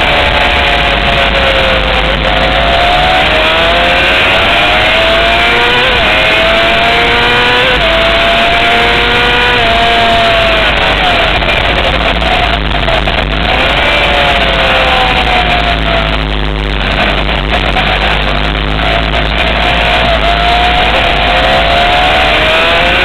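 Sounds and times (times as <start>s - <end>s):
motorcycle engine pulling hard: 0.0s - 23.0s
wind rush: 0.0s - 23.0s.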